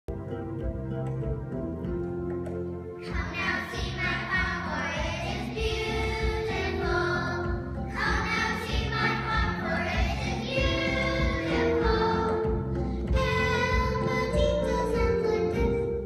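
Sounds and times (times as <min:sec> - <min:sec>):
instrumental accompaniment: 0:00.1 - 0:16.0
children singing together: 0:03.0 - 0:16.0.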